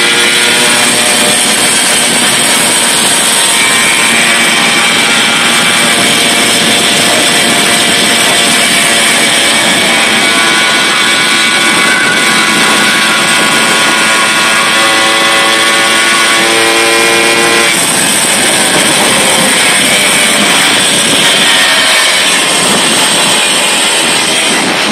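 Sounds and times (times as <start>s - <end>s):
moped two-stroke engine running: 0.0s - 24.9s.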